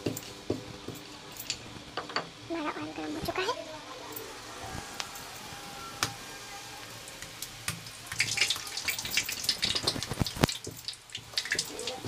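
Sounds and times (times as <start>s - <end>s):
dough deep-frying in oil: 0.0s - 12.0s.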